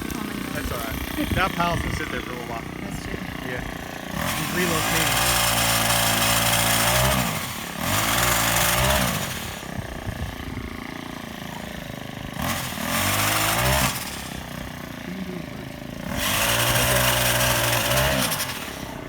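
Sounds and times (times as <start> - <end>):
chainsaw revving and idling: 0.0 - 19.0.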